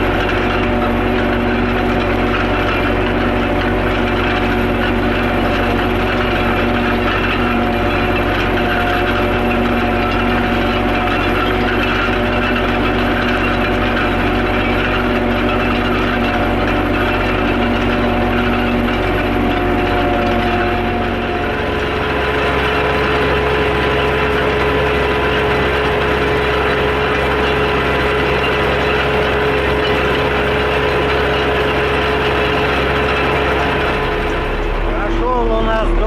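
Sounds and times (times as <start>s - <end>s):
tractor engine running steadily: 0.0s - 36.0s.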